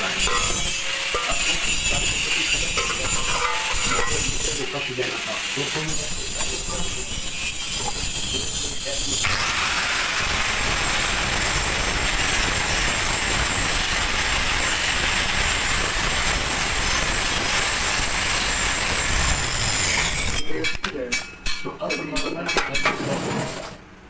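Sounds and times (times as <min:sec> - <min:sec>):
welding arc hissing: 0:00.0 - 0:20.4.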